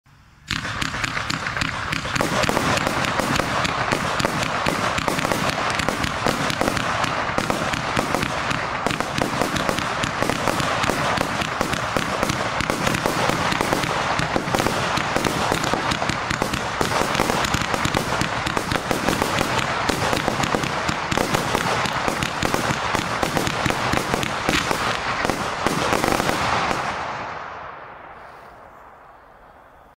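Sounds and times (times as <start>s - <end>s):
firework cake firing rapid shots: 0.5s - 27.6s.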